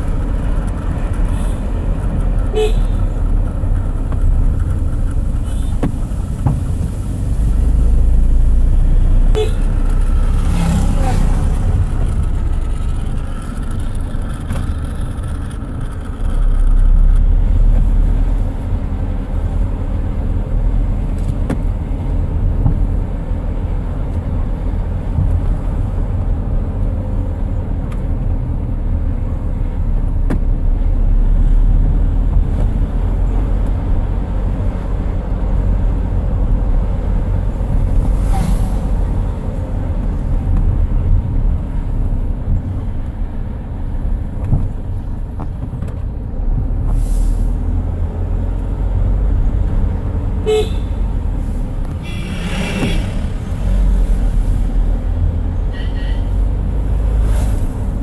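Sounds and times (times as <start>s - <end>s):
road vehicle rumble: 0.0s - 58.0s.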